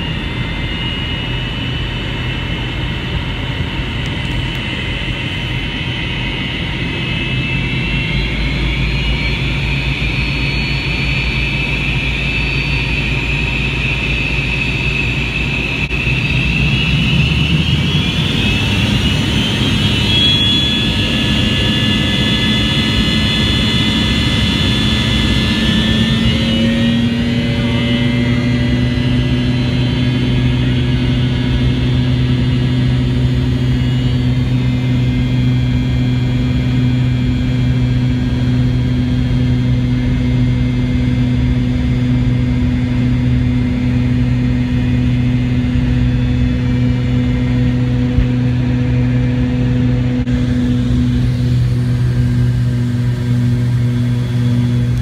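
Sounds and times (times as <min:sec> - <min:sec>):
jet engines roaring and whining: 0:00.0 - 0:55.0.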